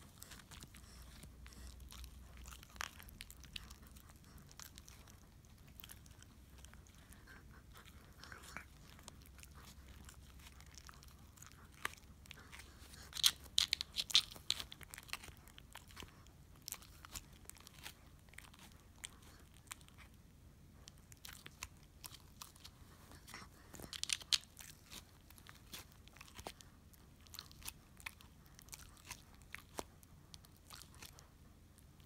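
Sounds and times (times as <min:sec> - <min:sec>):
dog gnawing bone: 0:00.0 - 0:20.2, 0:20.8 - 0:32.0.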